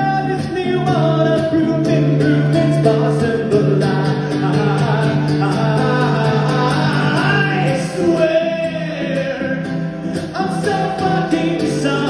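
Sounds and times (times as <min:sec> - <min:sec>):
acoustic guitar strumming: 0:00.0 - 0:12.0
man singing long notes: 0:00.0 - 0:12.0.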